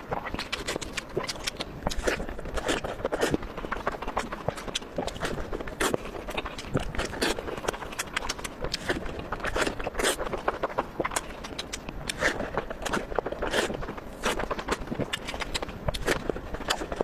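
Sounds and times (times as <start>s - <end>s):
person chewing crunchy food: 0.0s - 17.0s
wet mouth clicks: 0.2s - 17.0s.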